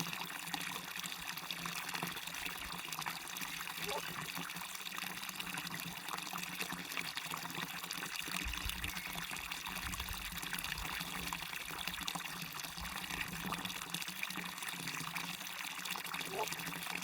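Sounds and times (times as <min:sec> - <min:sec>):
small waterfall splashing: 0:00.0 - 0:17.0.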